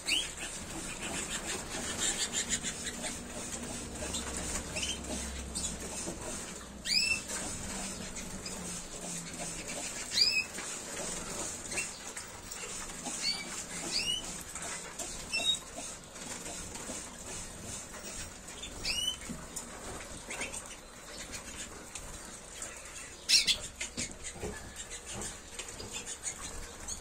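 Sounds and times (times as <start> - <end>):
birds pattering and rustling: 0.0 - 27.0
canaries chirping: 0.0 - 27.0.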